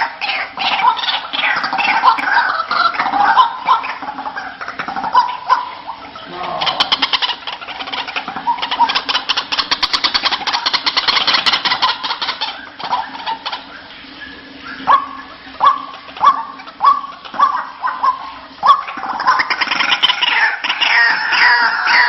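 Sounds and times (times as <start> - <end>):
waterhen chattering calls: 0.0 - 22.0.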